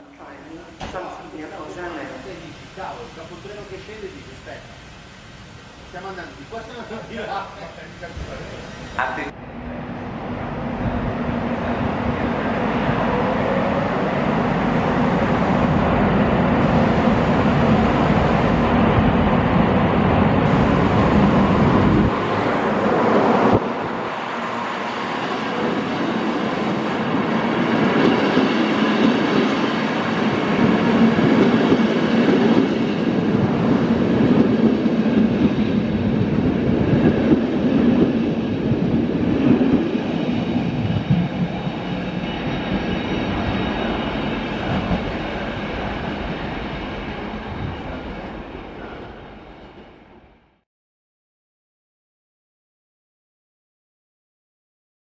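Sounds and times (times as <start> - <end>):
train rolling past: 0.0 - 50.6
wheels rumbling on rail: 0.0 - 50.6.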